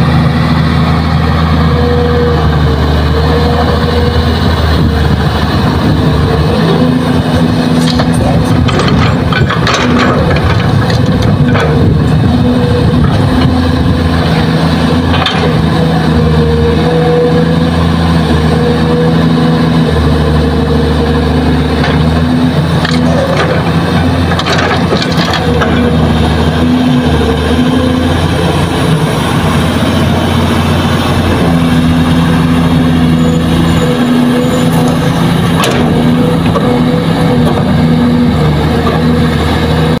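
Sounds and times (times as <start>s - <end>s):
excavator diesel engine: 0.0s - 40.0s.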